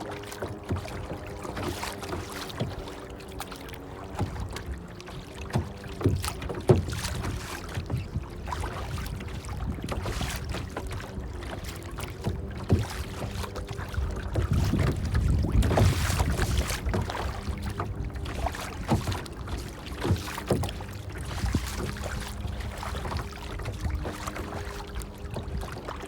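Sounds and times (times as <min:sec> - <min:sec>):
water lapping and splashing: 0:00.0 - 0:26.0.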